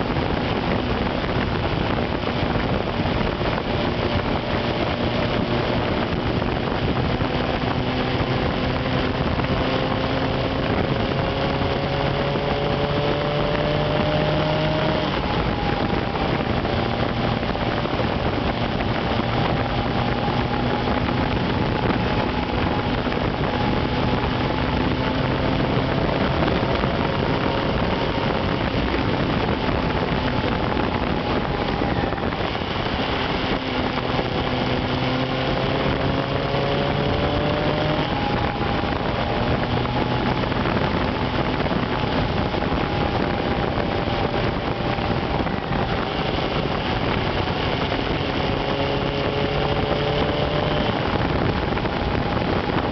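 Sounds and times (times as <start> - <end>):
motorcycle engine running: 0.0 - 52.9
wind rushing on microphone: 0.0 - 52.9.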